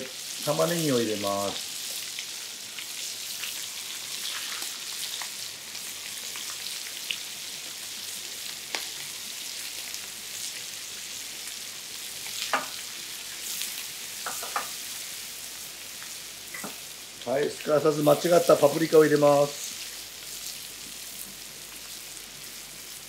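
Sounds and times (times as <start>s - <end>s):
meat sizzling in a skillet: 0.0s - 23.0s.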